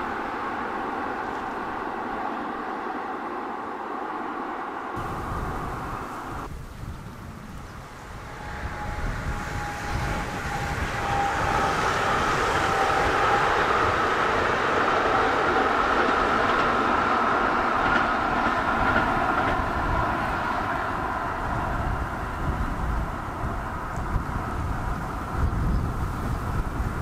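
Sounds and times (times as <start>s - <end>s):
electric train whine: 0.0s - 27.0s
wheels rumbling on rail: 0.0s - 27.0s.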